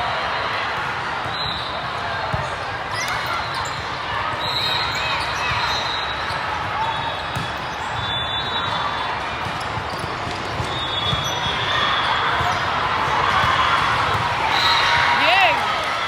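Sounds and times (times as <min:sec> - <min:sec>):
crowd hubbub in hall: 0:00.0 - 0:16.0.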